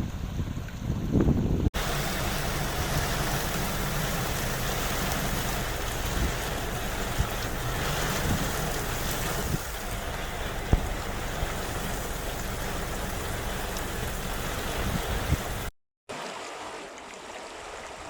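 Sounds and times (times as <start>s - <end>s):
low steady hum: 0.0s - 15.7s
steady rain falling: 1.8s - 18.0s.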